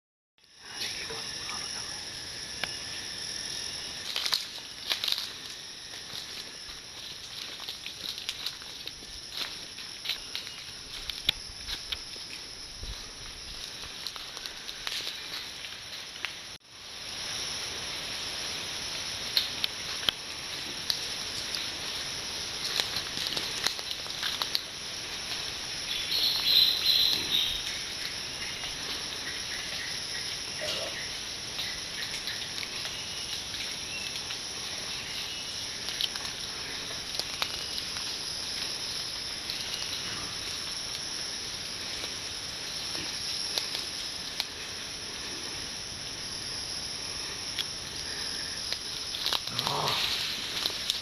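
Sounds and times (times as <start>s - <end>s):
forest insects chorus: 0.4s - 51.0s
boar cracking and chewing fruit: 2.5s - 12.6s, 19.3s - 51.0s.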